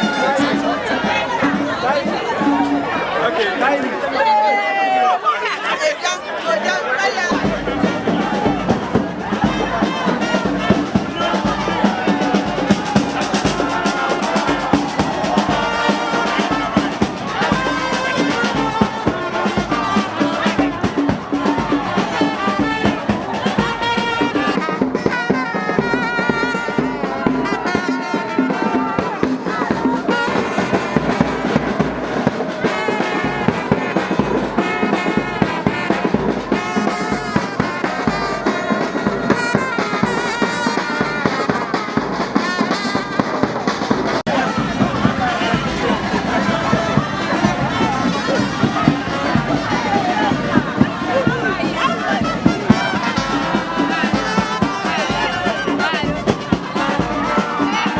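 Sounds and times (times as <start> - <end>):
brass music: 0.0 - 3.8, 6.2 - 57.9
steady drum beat: 0.0 - 4.1, 6.8 - 57.9.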